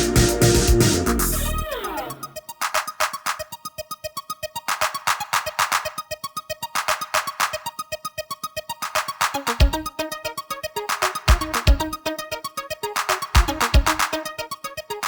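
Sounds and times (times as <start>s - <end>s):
electronic music with ticking beat: 0.0s - 15.0s.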